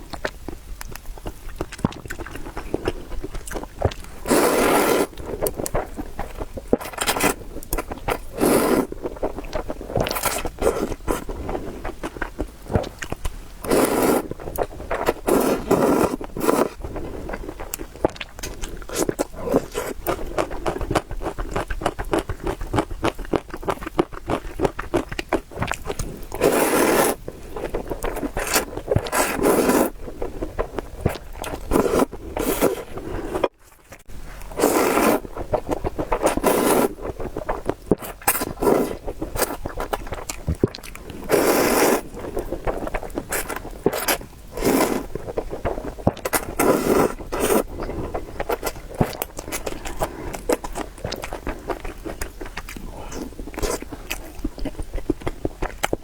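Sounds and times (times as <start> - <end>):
wet chewing clicks: 0.0 - 56.0
noodle slurps: 1.8 - 22.8, 23.7 - 33.5, 34.4 - 54.9.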